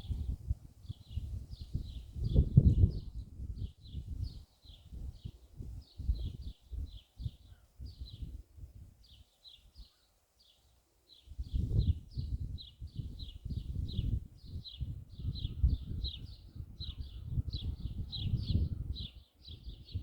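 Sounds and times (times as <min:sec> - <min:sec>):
wind buffeting microphone: 0:00.0 - 0:09.2, 0:11.3 - 0:20.0.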